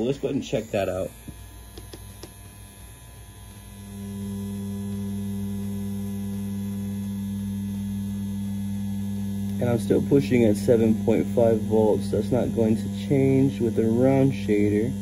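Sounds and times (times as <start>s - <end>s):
tattoo machine humming: 0.0s - 15.0s.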